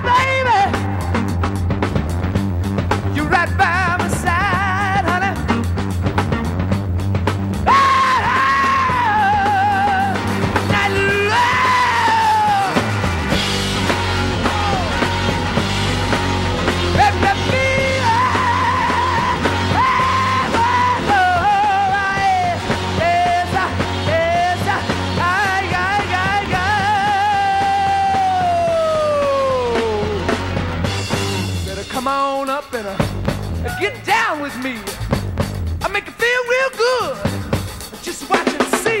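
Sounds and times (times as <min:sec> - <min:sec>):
live hard rock band: 0:00.0 - 0:39.0.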